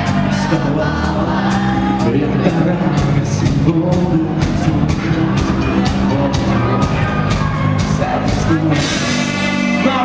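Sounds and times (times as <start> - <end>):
drum beat with cymbals: 0.0 - 10.0
rock band playing live: 0.0 - 10.0.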